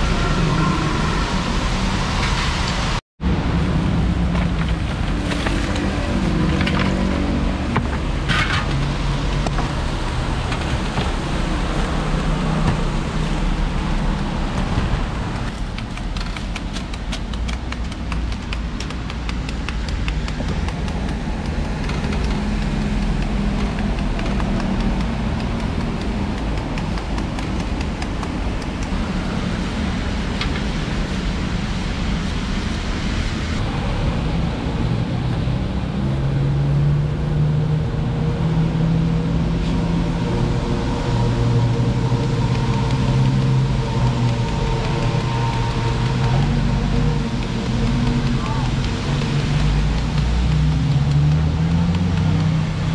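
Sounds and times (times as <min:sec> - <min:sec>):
road traffic: 0:00.0 - 0:52.9.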